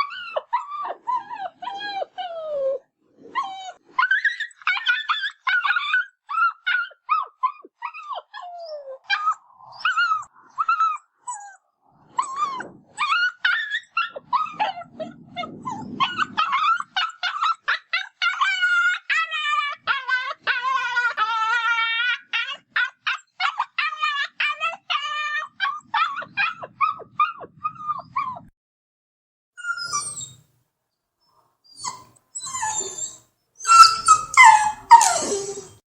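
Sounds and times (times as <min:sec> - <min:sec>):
dog whining: 0:00.0 - 0:28.5, 0:29.6 - 0:30.4, 0:31.7 - 0:35.8
dog yipping and barking: 0:03.4 - 0:11.6, 0:12.2 - 0:28.4, 0:29.6 - 0:30.4, 0:31.8 - 0:35.8.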